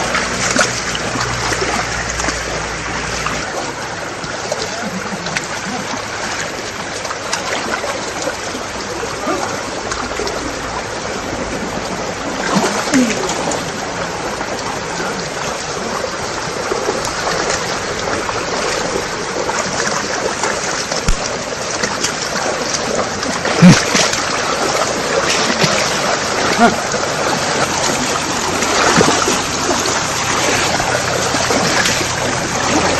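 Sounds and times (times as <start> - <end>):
river water babbling: 0.0 - 32.9
water splash: 0.0 - 32.9.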